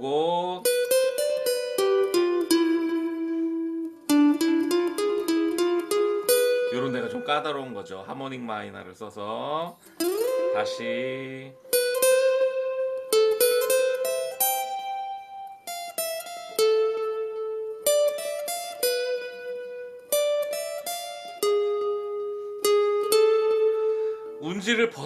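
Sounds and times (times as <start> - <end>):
acoustic guitar single-note melody: 0.0 - 25.0.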